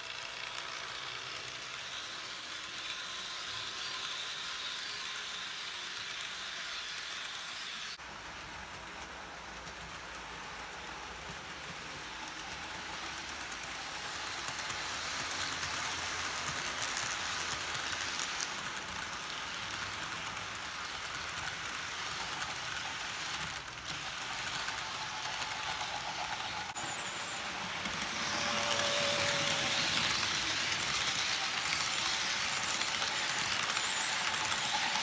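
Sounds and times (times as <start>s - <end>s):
model locomotive motor running: 0.0s - 35.0s
model train wheels rattling on rails: 0.0s - 35.0s.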